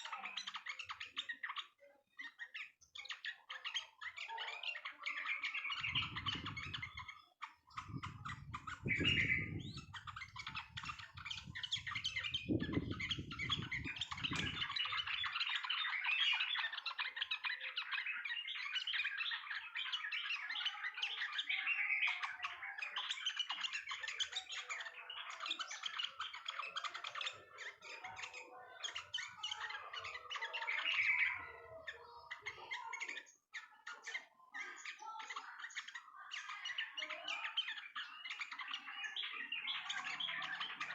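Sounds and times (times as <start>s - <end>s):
bulbul chattering chirps: 0.0s - 40.9s.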